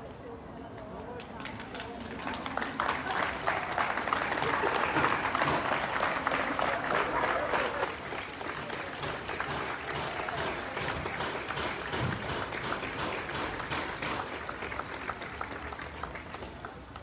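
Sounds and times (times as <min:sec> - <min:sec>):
crowd applauding: 0:01.2 - 0:17.0.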